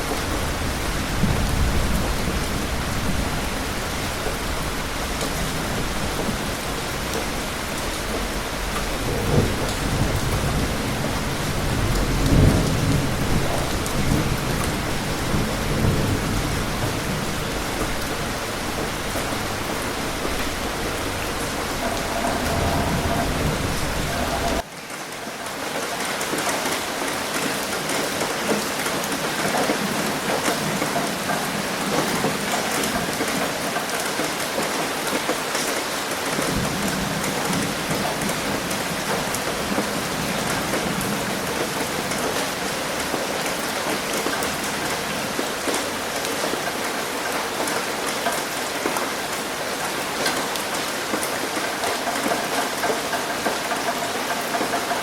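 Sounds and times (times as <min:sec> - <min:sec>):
heavy rain with low rumble: 0:00.0 - 0:55.0
rain patter on a roof: 0:00.0 - 0:55.0.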